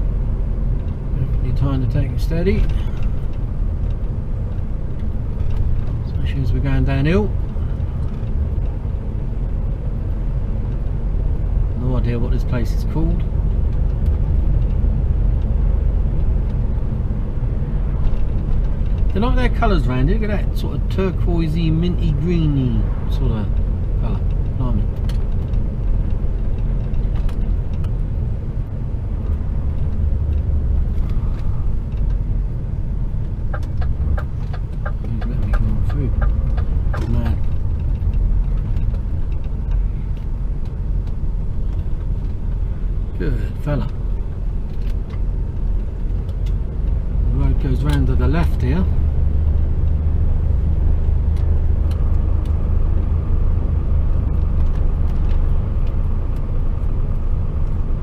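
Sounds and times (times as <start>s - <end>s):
lorry diesel engine rumble: 0.0s - 58.0s
road noise: 0.0s - 58.0s.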